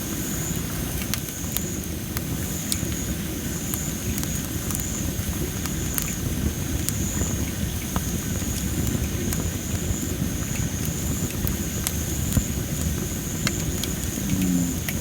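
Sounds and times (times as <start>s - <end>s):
low fire rumble: 0.0s - 15.0s
campfire crackling and popping: 0.2s - 15.0s.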